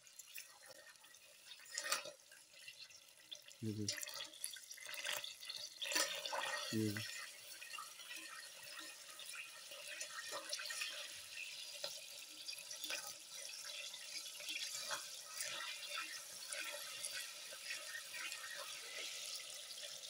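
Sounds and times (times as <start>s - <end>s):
coconut cream sizzling in saucepan: 0.0s - 20.0s.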